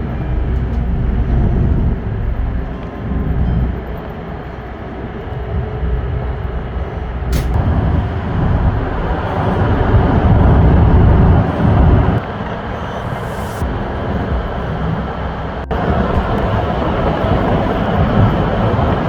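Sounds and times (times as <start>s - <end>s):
car rumble from inside cabin: 0.0s - 19.0s.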